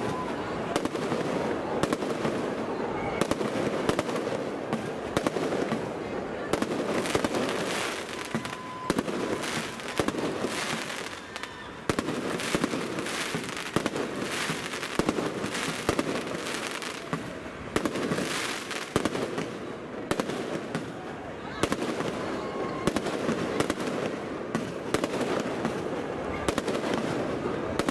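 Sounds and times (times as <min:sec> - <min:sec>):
fireworks bangs: 0:00.0 - 0:27.9
fireworks crackling: 0:00.0 - 0:27.9.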